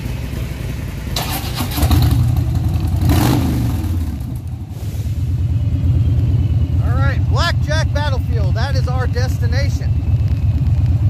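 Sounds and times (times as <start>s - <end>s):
motorcycle engine revving: 1.1s - 11.0s.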